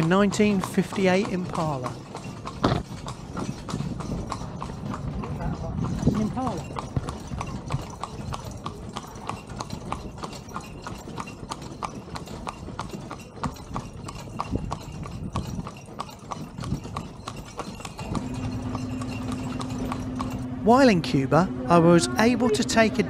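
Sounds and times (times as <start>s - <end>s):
hooves clip-clopping on pavement: 0.0s - 20.5s.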